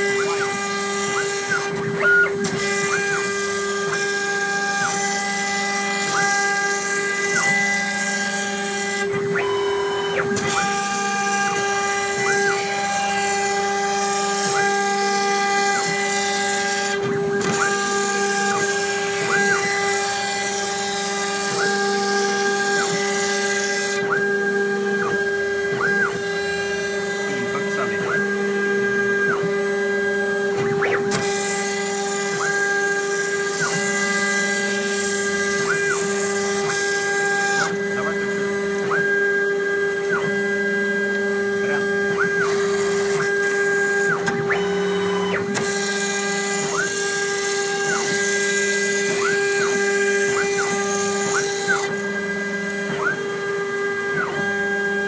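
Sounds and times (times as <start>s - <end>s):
milling machine whine: 0.0s - 55.0s.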